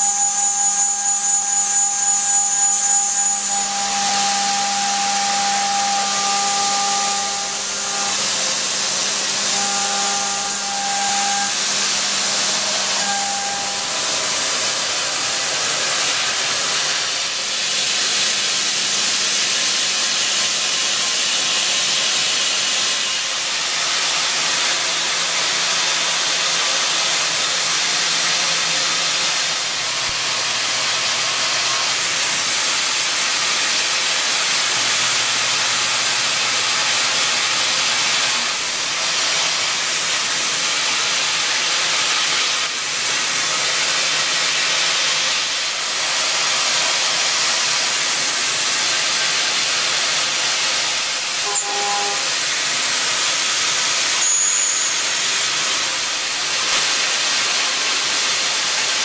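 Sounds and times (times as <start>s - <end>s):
milling spindle whine: 0.0s - 24.5s, 25.3s - 47.8s, 51.2s - 52.6s, 54.0s - 55.3s.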